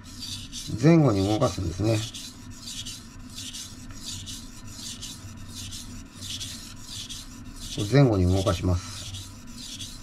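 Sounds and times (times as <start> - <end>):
knife scraping on whetstone: 0.0 - 10.0.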